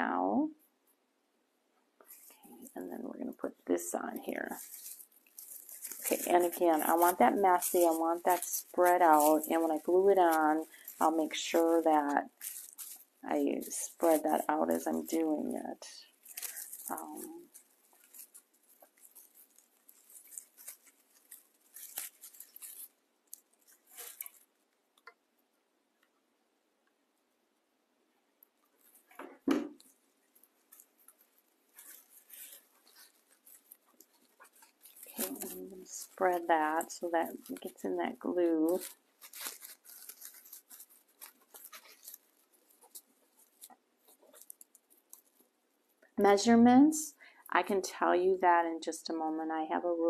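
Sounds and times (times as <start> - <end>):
dry raffia rustling and crinkling: 2.0 - 25.2, 28.5 - 50.0.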